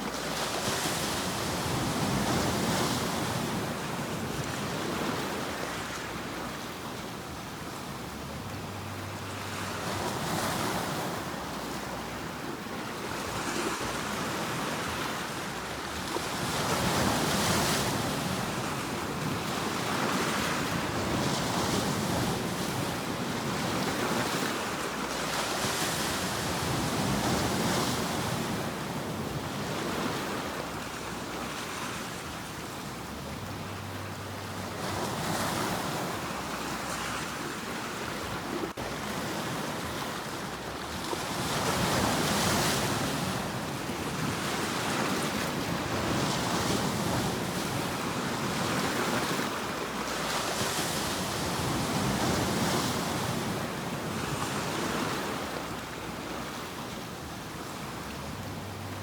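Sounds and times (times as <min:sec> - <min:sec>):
sea waves breaking: 0:00.0 - 0:59.0.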